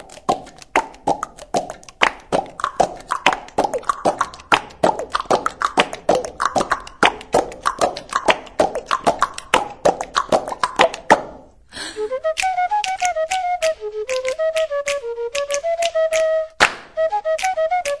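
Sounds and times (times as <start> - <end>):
percussive music: 0.0 - 11.5, 12.2 - 18.0.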